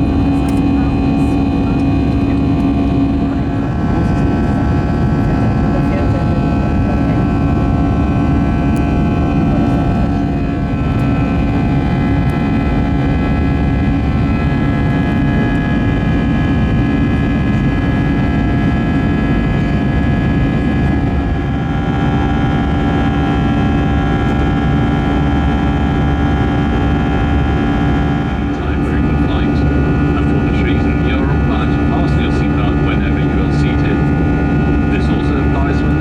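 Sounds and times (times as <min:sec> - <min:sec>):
jet engine rumble in cabin: 0:00.0 - 0:36.0
whining engine tones: 0:00.0 - 0:36.0.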